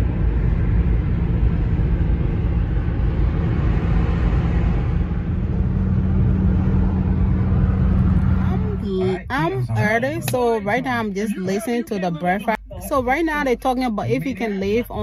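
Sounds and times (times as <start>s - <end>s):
car road noise at highway speed: 0.0s - 15.0s.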